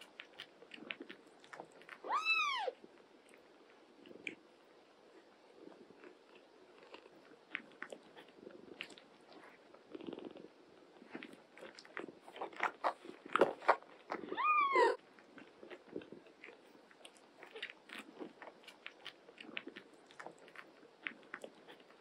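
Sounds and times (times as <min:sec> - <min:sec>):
kittens suckling: 0:00.0 - 0:04.5, 0:05.2 - 0:22.0.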